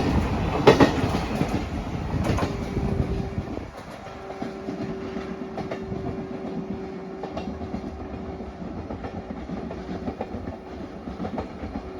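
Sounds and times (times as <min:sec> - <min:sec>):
freight train rumble: 0:00.0 - 0:11.9
train wheels clattering: 0:00.0 - 0:11.9.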